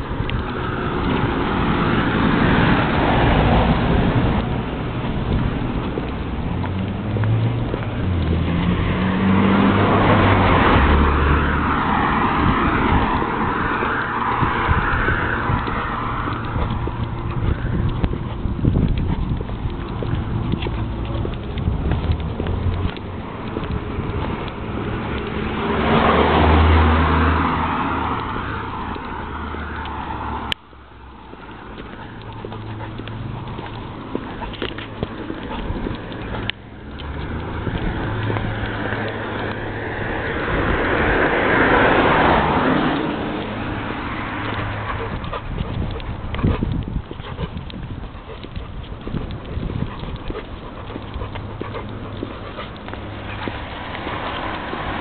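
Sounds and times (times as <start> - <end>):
footsteps on a path: 0.0 - 55.0
road vehicle passing: 0.0 - 55.0
wind buffeting microphone: 0.0 - 55.0.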